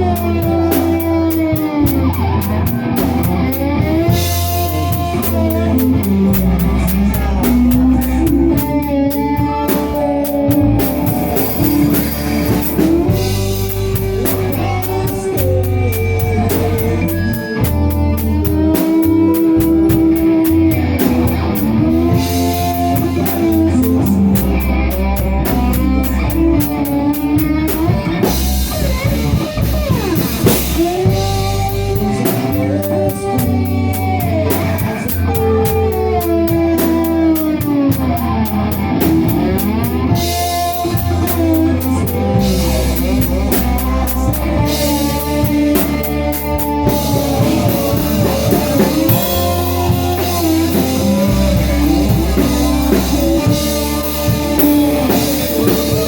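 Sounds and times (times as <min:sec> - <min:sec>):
drum kit: 0:00.0 - 0:56.0
electric guitar sliding notes: 0:00.0 - 0:56.0.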